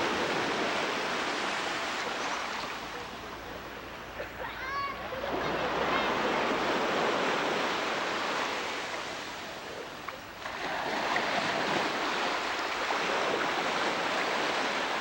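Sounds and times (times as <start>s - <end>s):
sea water rushing: 0.0s - 15.0s.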